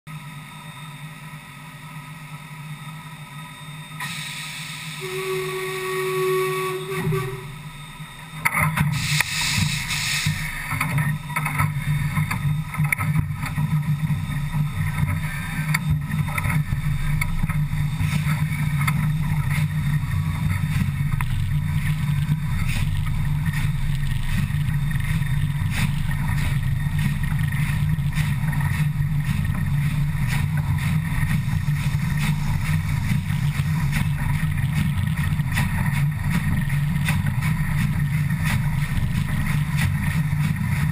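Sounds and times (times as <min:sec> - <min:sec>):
steam hiss: 0:03.4 - 0:40.9
locomotive wheels rumbling and clattering: 0:05.0 - 0:40.9.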